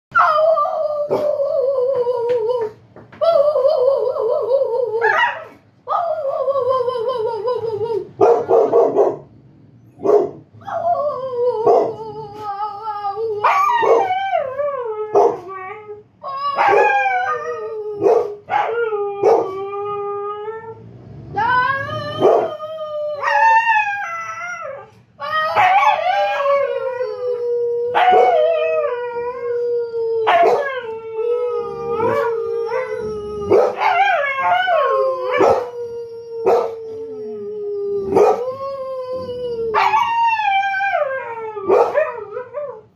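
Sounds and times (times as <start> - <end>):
dog howling: 0.1 - 8.8, 10.6 - 42.9.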